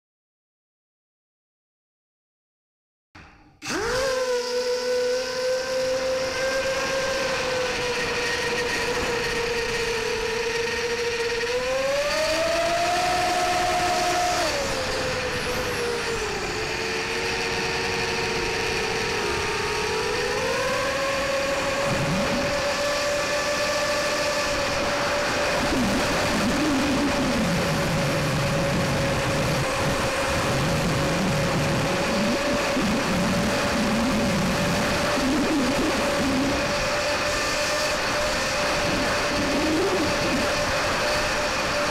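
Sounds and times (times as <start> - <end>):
drone motors whining: 3.2 - 41.9.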